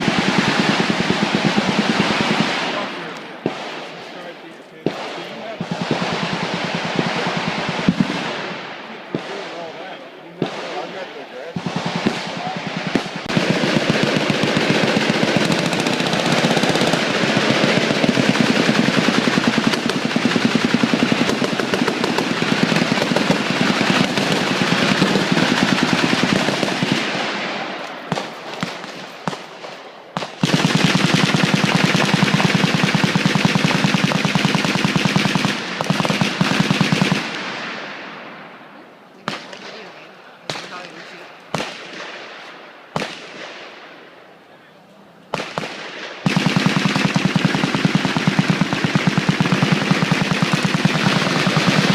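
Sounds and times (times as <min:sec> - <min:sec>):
automatic gunfire: 0:00.0 - 0:38.2, 0:39.2 - 0:44.0, 0:45.3 - 0:51.9.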